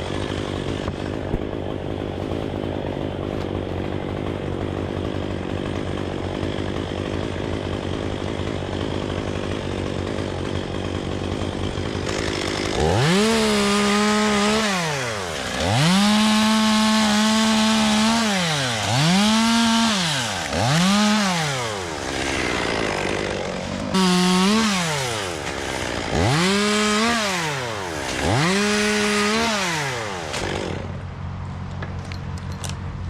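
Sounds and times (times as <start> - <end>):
chainsaw engine revving: 0.0 - 31.2.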